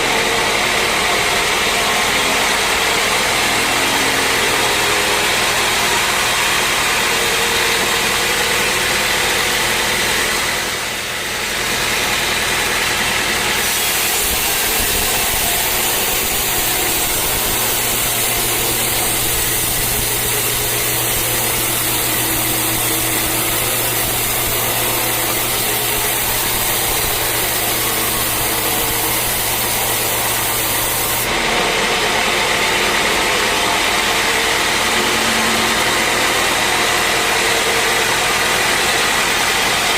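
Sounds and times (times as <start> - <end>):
steady low machine hum: 0.0 - 9.0, 14.1 - 39.4
sawmill saw cutting log: 0.0 - 39.9.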